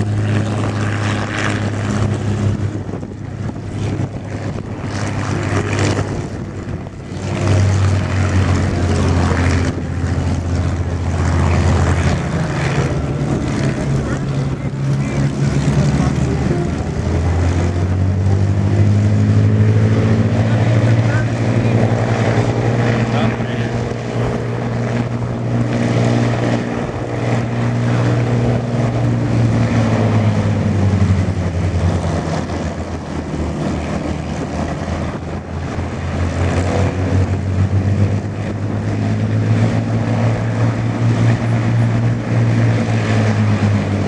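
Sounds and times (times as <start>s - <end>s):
aircraft propeller engines droning: 0.0s - 44.0s.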